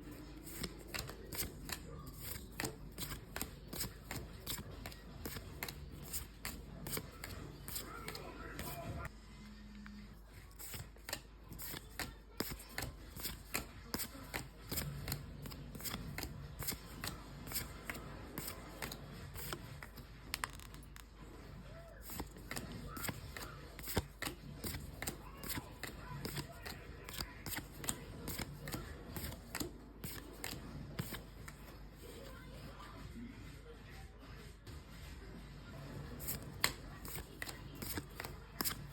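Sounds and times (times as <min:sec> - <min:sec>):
trading cards flicked through: 0:00.1 - 0:08.9, 0:10.5 - 0:21.1, 0:22.0 - 0:31.8, 0:36.2 - 0:38.9.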